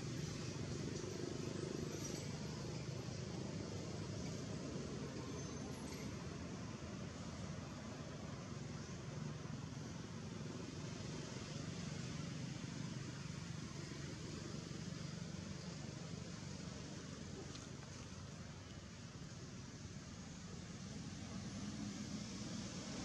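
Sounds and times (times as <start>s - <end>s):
constant hiss: 0.0s - 23.0s
low outdoor rumble: 0.0s - 23.0s.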